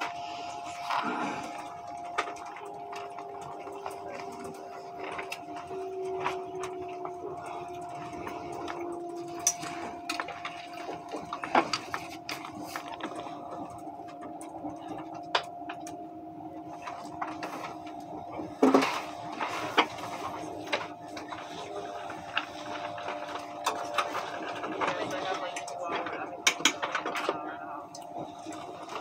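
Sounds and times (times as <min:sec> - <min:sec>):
electric drive whine: 0:00.0 - 0:29.0.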